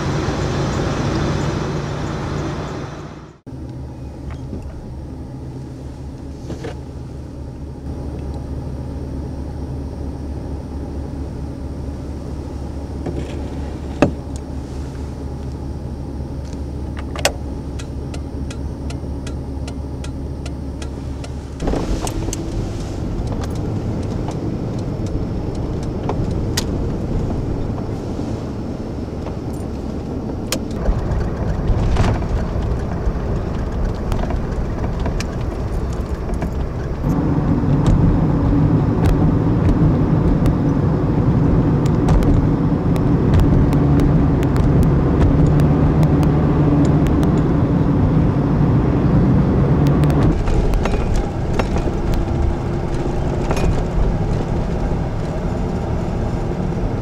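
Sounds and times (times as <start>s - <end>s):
car engine and road hum: 0.0s - 57.0s.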